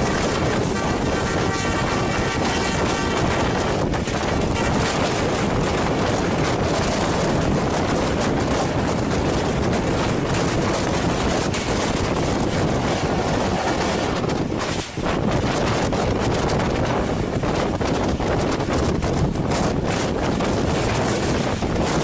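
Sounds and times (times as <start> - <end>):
train running noise: 0.0 - 22.0
wind rushing on microphone: 0.0 - 22.0.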